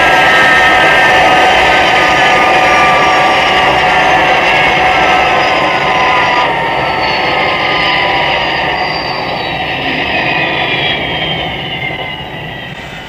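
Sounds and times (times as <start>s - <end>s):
jet engines whining: 0.0s - 13.0s.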